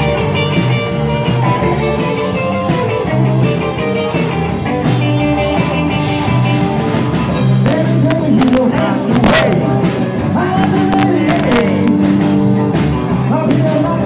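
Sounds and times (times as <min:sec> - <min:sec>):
electric guitar: 0:00.0 - 0:14.0
rock band playing: 0:00.0 - 0:14.0.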